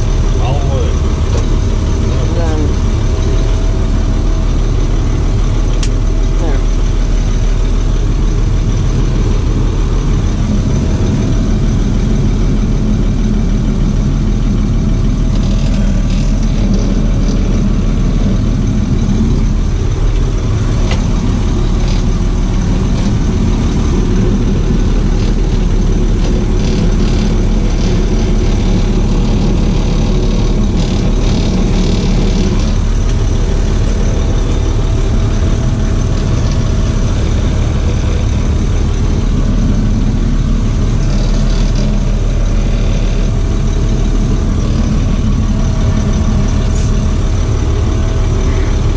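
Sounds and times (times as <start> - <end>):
box truck engine running: 0.0 - 48.9.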